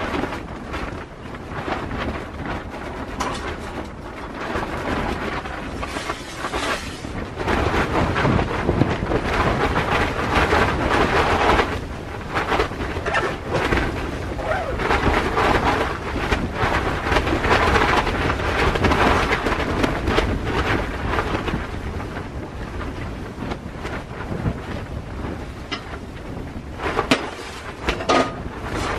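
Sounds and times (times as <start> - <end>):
storm winds gusting: 0.0 - 28.9
tent fabric flapping: 0.0 - 28.9.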